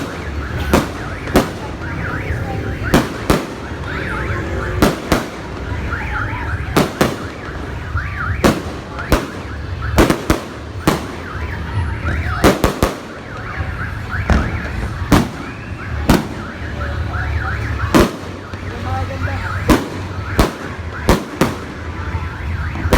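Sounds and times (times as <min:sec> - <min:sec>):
fireworks bangs: 0:00.0 - 0:22.9.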